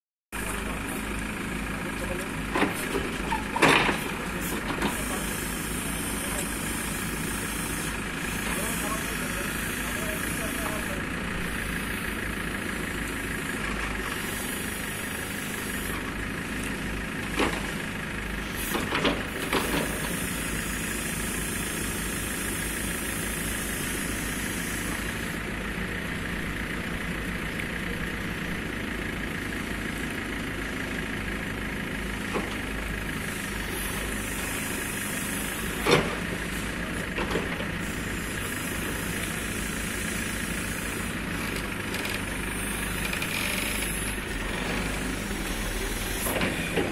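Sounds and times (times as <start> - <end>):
diesel engine running: 0.4 - 46.9.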